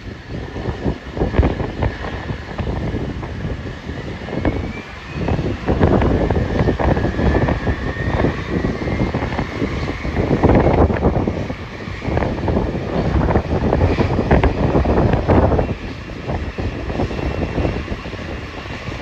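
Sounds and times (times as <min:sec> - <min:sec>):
jet engines whining: 0:00.0 - 0:19.0
wind buffeting microphone: 0:00.0 - 0:19.0.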